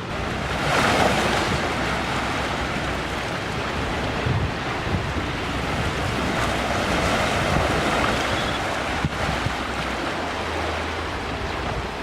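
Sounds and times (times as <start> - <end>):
ocean waves washing ashore: 0.0 - 12.0
wind rumbling on microphone: 0.0 - 12.0.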